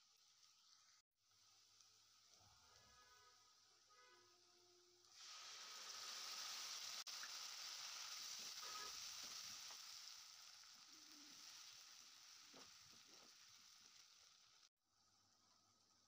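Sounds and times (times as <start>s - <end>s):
gravy sizzling in oil: 0.0s - 16.0s.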